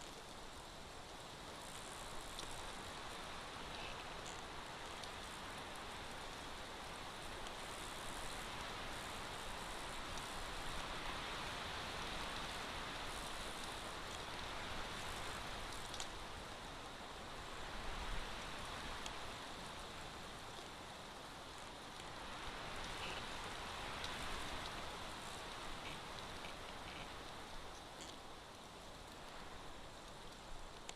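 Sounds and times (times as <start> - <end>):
steady rain hiss: 0.0 - 30.9.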